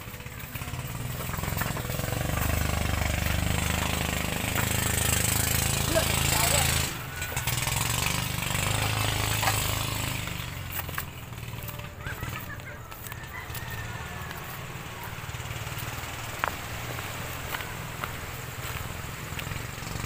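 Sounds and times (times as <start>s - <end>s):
footsteps on beach stones: 0.0s - 20.0s
low engine drone: 0.0s - 20.0s
rooster crowing: 0.7s - 10.8s, 11.6s - 18.8s.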